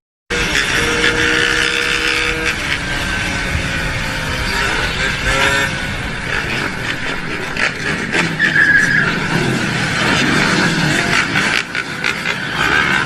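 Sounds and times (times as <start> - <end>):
road and wind noise: 0.3 - 13.0
vehicle engine running: 0.3 - 13.0.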